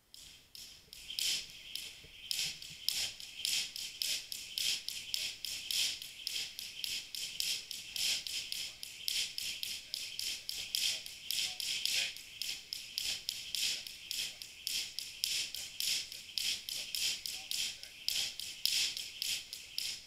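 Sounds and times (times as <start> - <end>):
jump rope slapping floor: 0.5 - 20.0.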